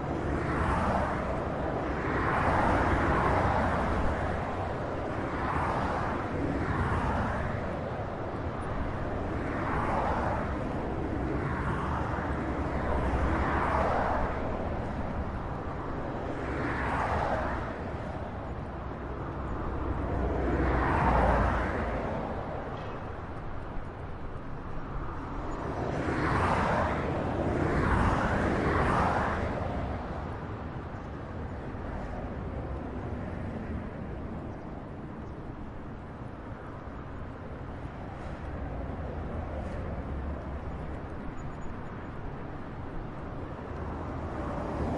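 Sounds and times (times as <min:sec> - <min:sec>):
highway traffic rumble: 0:00.0 - 0:44.9.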